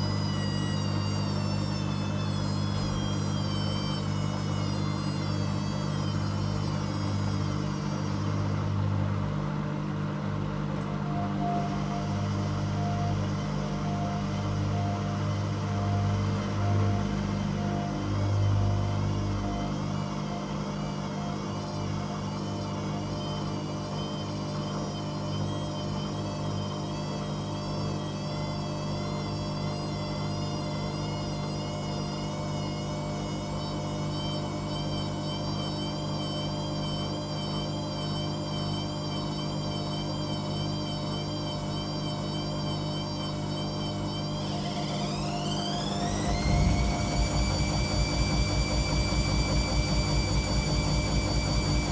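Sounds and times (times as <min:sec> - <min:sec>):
faint high whine: 0:00.0 - 0:09.2, 0:10.7 - 0:51.9
washing machine motor hum: 0:00.0 - 0:51.9.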